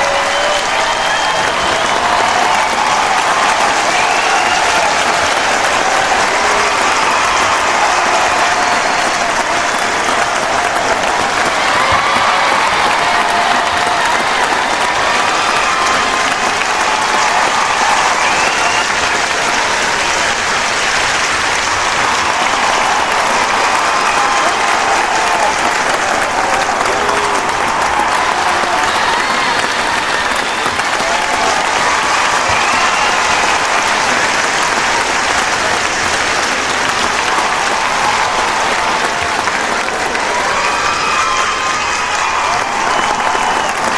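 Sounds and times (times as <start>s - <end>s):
crowd applauding: 0.0s - 43.9s
voices cheering: 0.0s - 43.9s.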